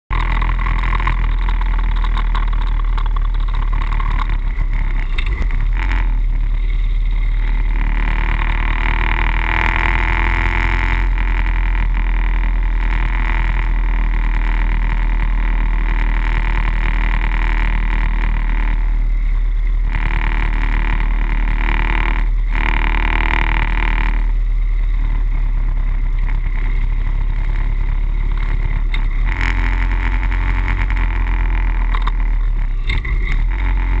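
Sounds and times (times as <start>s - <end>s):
motorcycle engine rumbling: 0.1s - 34.0s.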